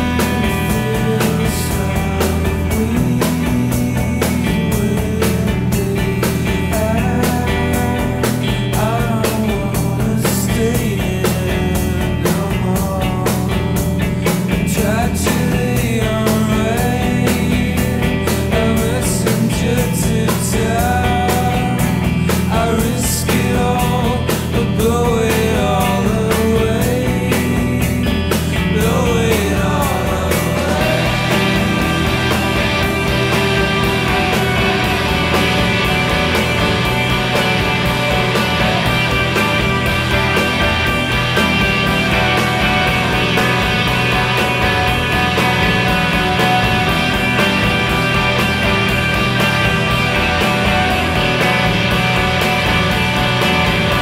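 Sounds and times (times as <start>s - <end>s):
person singing: 0.0s - 48.4s
drums: 0.0s - 54.0s
guitar: 0.0s - 54.0s
rock music: 0.0s - 54.0s.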